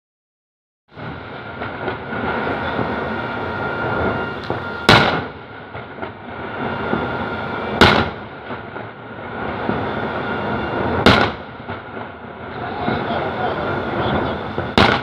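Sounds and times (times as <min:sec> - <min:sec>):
fireworks crackling: 0:00.9 - 0:15.0
fireworks shells bursting: 0:01.0 - 0:15.0.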